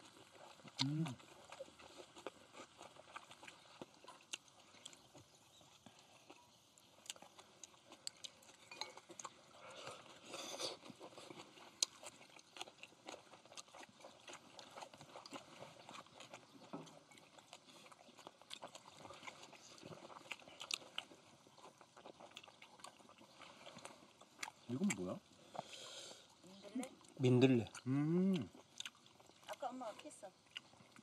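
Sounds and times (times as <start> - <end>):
chewing: 0.0 - 31.0.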